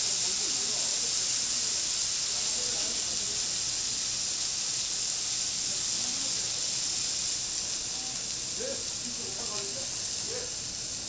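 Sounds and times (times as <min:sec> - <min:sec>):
steak sizzling on griddle: 0:00.0 - 0:11.0.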